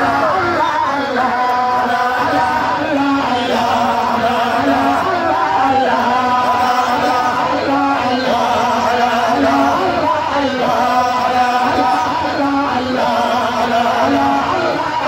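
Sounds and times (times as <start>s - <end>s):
woman singing chant into microphone: 0.0s - 15.0s.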